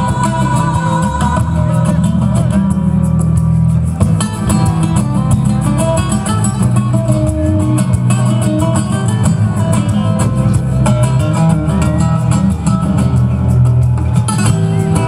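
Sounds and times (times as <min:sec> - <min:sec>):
dance music with plucked strings: 0:00.0 - 0:15.0.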